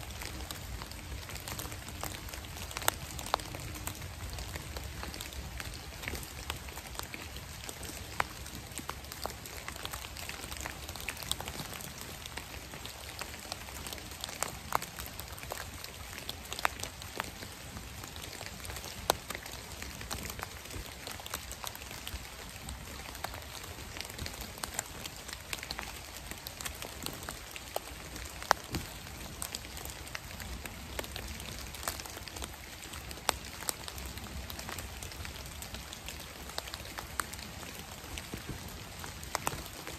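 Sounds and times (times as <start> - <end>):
rain drips on dead leaves: 0.0 - 39.9.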